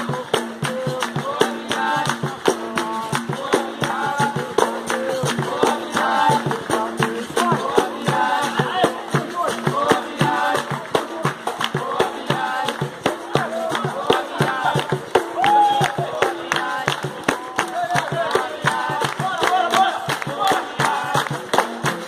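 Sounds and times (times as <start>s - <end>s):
caxixi rattle shaken: 0.0s - 22.0s
group singing: 0.0s - 22.0s
hand clapping: 0.0s - 22.0s.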